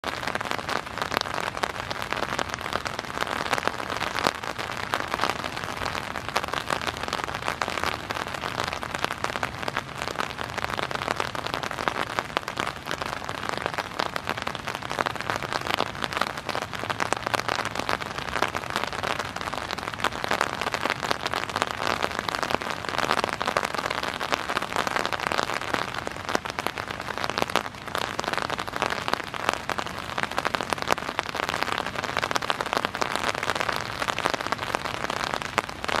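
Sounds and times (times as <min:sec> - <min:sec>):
rain falling on umbrella: 0:00.0 - 0:36.0.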